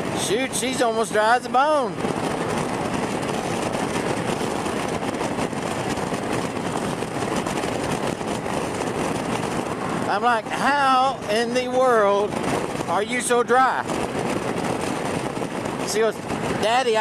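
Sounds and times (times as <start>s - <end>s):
motorcycle road noise: 0.0s - 17.0s
wind rushing: 0.0s - 17.0s.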